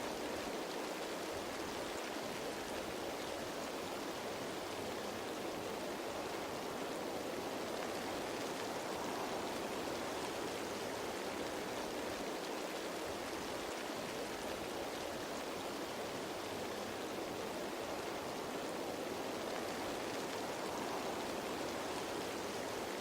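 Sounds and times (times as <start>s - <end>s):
rain falling on leaves: 0.0s - 23.0s.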